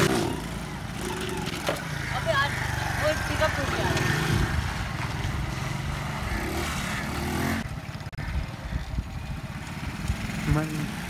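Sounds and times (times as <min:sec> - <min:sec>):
quieter engine running: 0:00.0 - 0:11.0
small motorcycle engines revving: 0:00.0 - 0:11.0.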